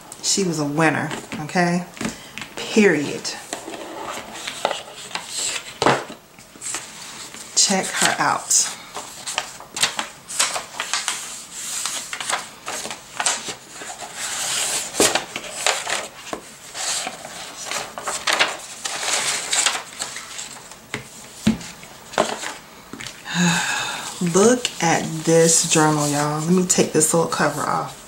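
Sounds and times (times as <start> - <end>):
paper and cardboard rustling: 3.0 - 22.6, 24.2 - 28.0.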